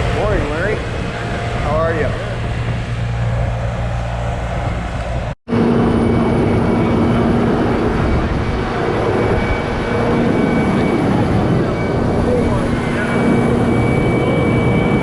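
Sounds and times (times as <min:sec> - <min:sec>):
heavy equipment engine humming: 0:00.0 - 0:15.0.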